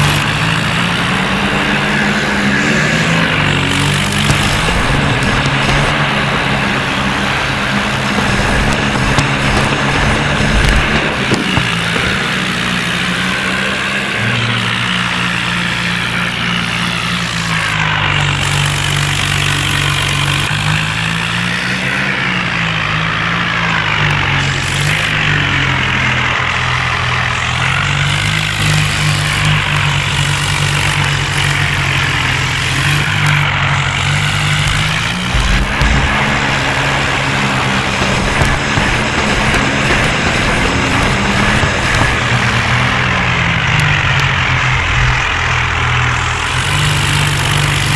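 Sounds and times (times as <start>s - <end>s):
tractor diesel engine running hard: 0.0s - 47.9s.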